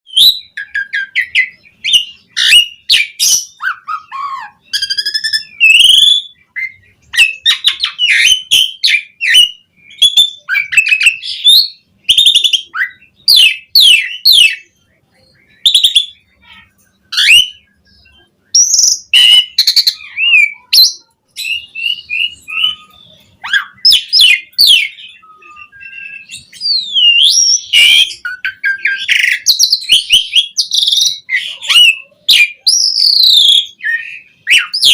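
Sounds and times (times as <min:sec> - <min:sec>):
starling singing: 0:00.1 - 0:34.9.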